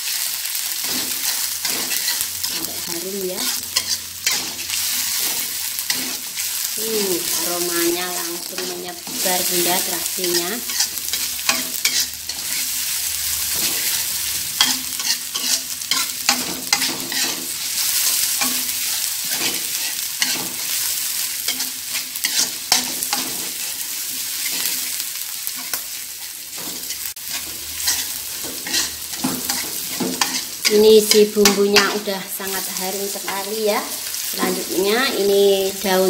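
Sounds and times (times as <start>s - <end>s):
food sizzling in hot oil: 0.0s - 36.0s
metal spatula scraping wok: 0.1s - 35.2s.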